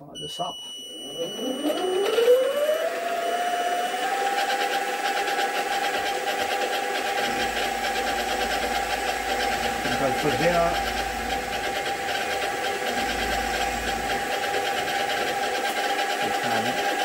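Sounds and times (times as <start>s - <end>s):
milling machine motor whine: 0.0s - 17.0s.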